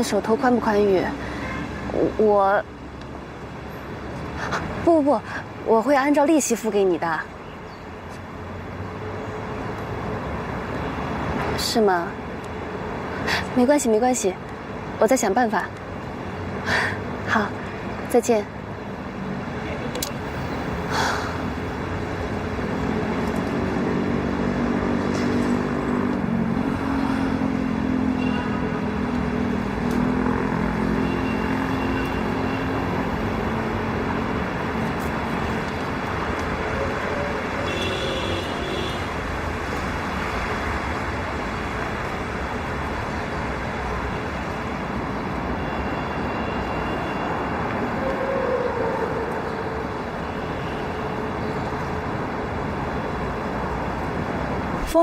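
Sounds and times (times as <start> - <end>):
road traffic passing cars: 0.0 - 55.0.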